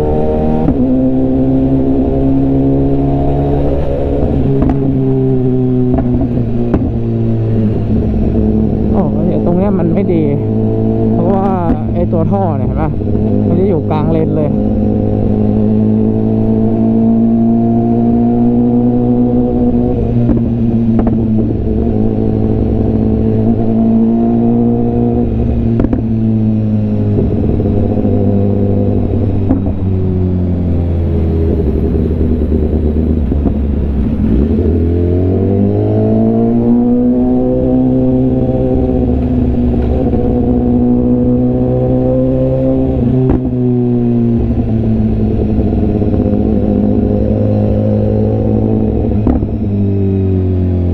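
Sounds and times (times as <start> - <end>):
motorcycle exhaust note: 0.0 - 50.9.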